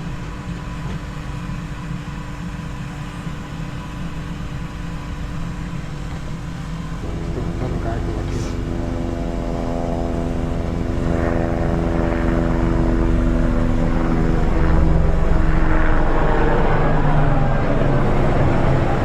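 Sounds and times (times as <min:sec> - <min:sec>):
blower whirring hum: 0:00.0 - 0:19.0
furnace rushing roar: 0:00.0 - 0:19.0.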